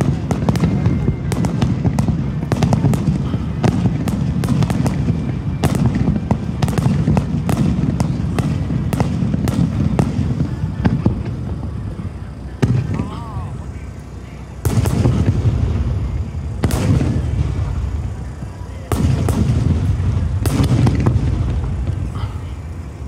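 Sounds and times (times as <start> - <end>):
firework shells bursting: 0.0 - 13.9, 14.5 - 23.0.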